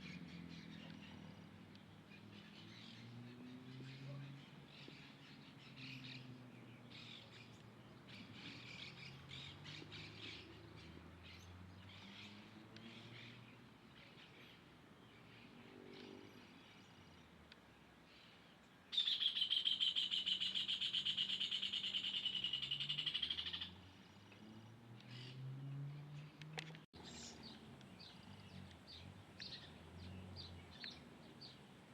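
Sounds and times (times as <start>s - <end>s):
birds chirping: 0.0s - 31.9s.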